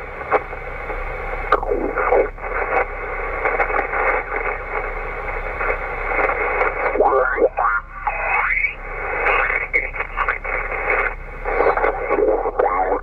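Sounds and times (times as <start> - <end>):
radio band hiss: 0.0 - 13.0.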